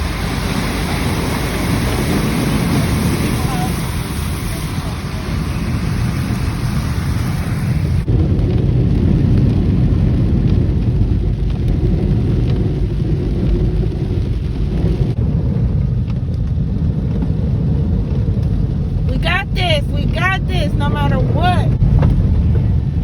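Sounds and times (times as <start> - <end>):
road and tyre rumble in car: 0.0 - 23.0.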